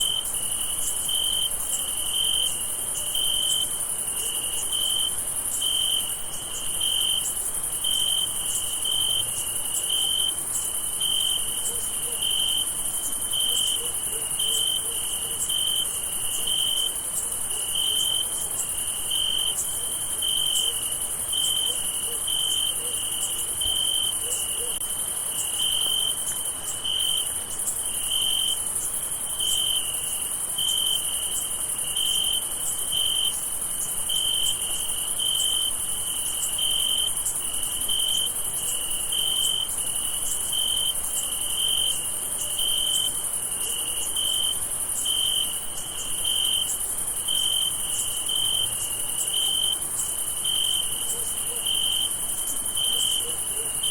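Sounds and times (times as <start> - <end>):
cricket chirping: 0.0 - 53.9.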